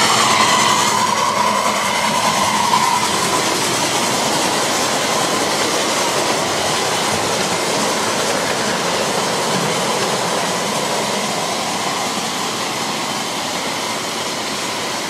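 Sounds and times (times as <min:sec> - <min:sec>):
train wheels clattering on rail: 0:00.0 - 0:15.0.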